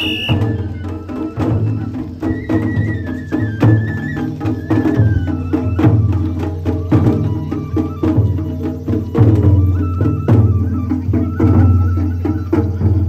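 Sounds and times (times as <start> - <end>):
drums beating steady rhythm: 0.0 - 13.0
high flute melody: 0.0 - 13.0.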